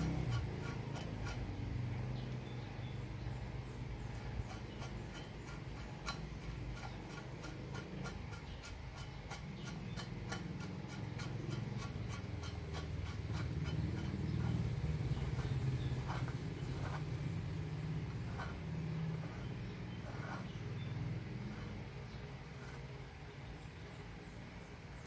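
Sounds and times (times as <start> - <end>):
steady ticking: 0.0 - 2.4, 3.0 - 21.9.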